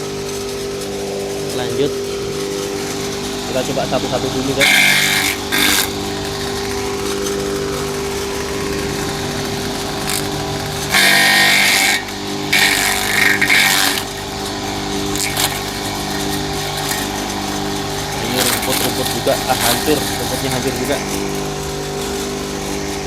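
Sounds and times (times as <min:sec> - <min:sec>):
electric chopper motor running: 0:00.0 - 0:23.0.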